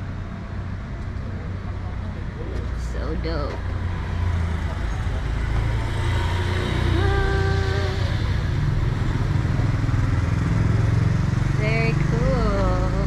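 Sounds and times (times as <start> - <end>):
passing motor vehicles rumbling: 0.0 - 13.0
motorcycles passing: 1.3 - 13.0.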